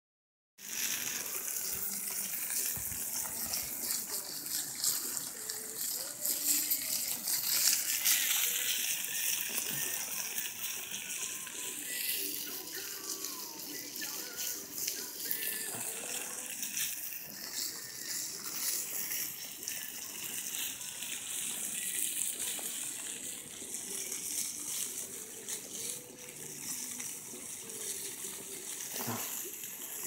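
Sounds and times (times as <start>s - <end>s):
campfire crackling and hissing: 0.6s - 30.0s
faint voices: 0.6s - 30.0s.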